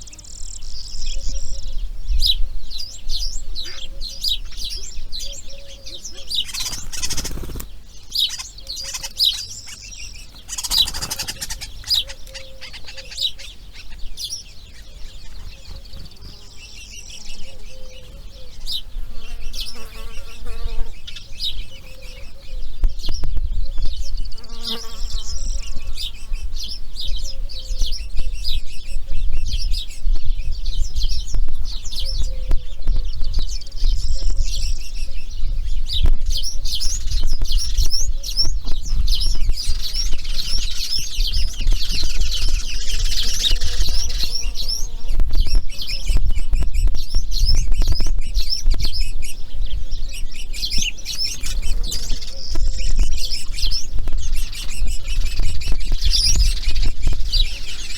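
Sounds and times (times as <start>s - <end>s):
birds chirping and calling: 0.0s - 57.9s.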